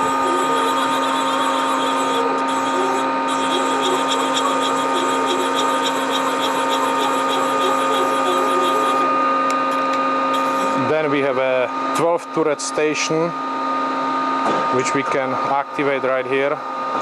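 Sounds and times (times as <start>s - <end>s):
lathe whine: 0.0s - 17.0s.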